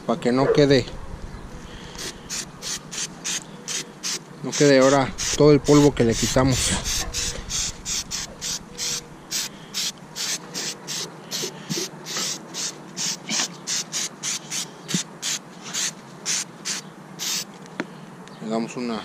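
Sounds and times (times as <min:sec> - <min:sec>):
aerosol can spraying: 0:02.0 - 0:17.5.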